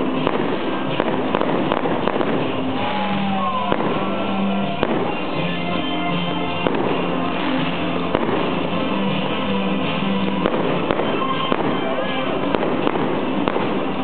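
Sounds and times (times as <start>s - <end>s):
fireworks bangs and crackles: 0.0s - 14.0s
music with held notes: 0.0s - 14.0s.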